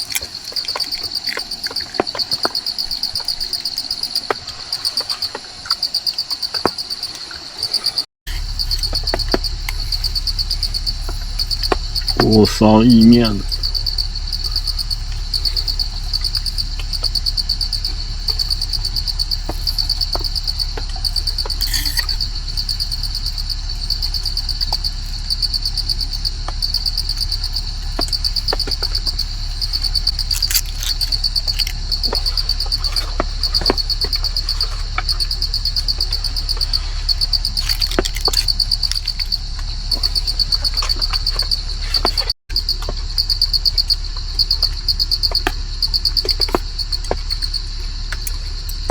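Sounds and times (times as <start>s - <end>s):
insects trilling: 0.0s - 48.9s
low steady hum: 8.3s - 48.9s.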